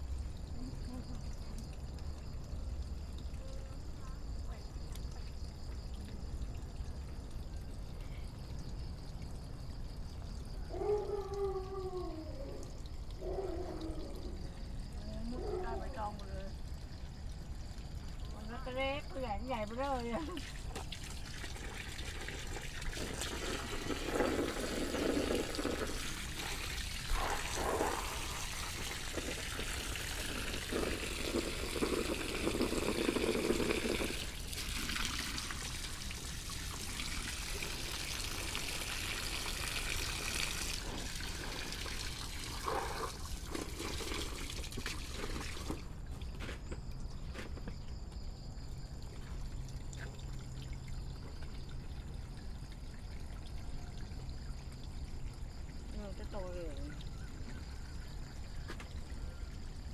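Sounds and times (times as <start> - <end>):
water trickling into pond: 0.0 - 59.9.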